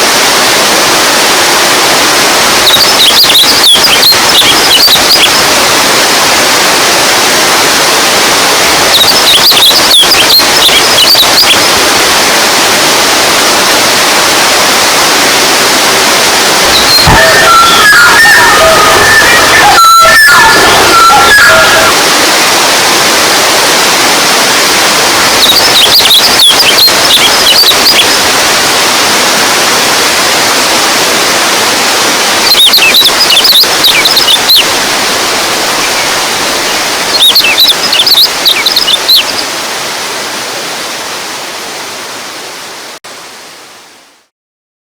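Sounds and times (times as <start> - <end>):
running water: 0.0 - 44.3.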